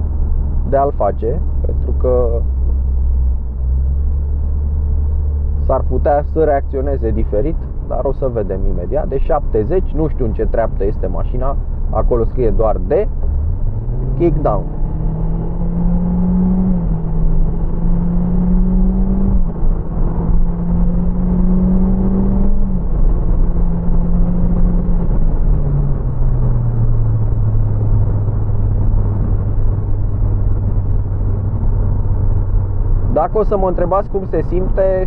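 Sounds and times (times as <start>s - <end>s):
car engine revving under acceleration: 0.0s - 35.0s.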